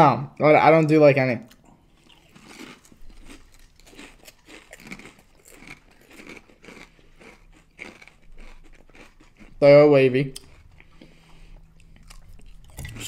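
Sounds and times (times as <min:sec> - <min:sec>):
people crunching potato chips: 0:01.4 - 0:13.0.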